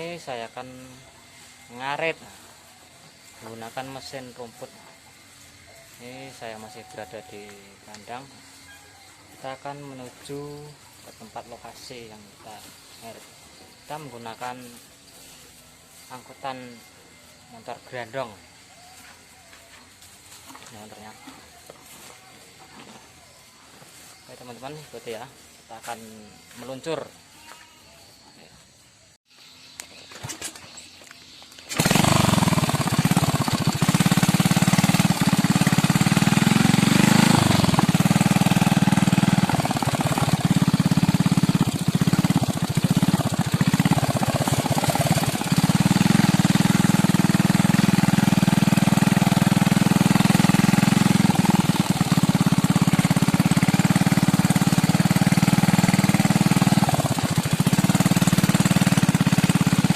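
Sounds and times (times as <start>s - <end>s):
loud rough motorcycle engine: 0.0s - 16.8s, 19.0s - 22.0s, 23.9s - 27.1s, 31.5s - 59.9s.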